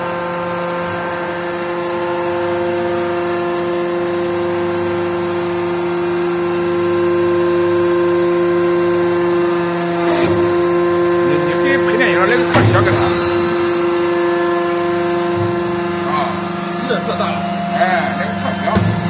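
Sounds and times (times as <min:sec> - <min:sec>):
hydraulic pump whining: 0:00.0 - 0:19.0.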